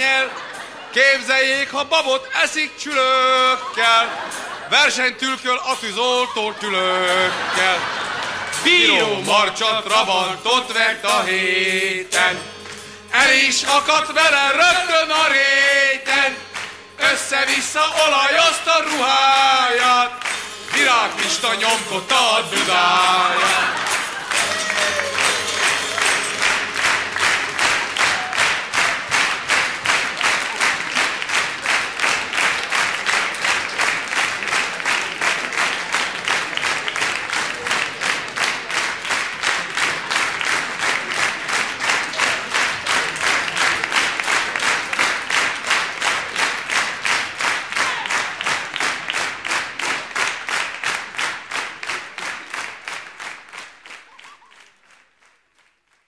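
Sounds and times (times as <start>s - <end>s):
audience clapping in unison: 0.0s - 56.0s.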